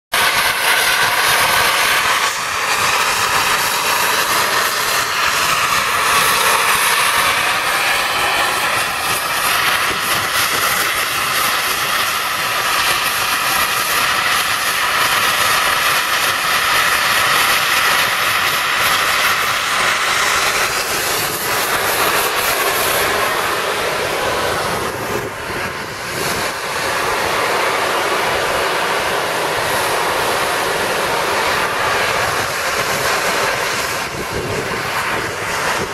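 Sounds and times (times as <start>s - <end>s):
steam venting hiss: 0.1s - 35.9s.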